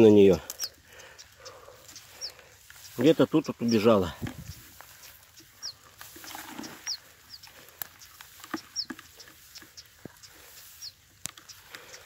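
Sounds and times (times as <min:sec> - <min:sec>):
grass rustling by hand: 0:00.0 - 0:12.0
small bird chirping: 0:00.0 - 0:12.0.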